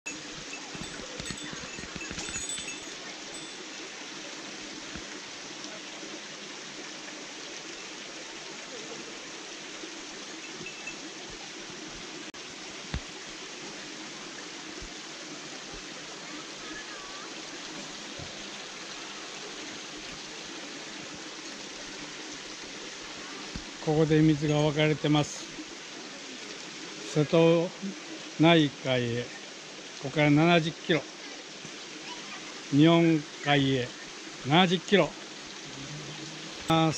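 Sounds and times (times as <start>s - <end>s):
stream flowing over stones: 0.1s - 36.9s.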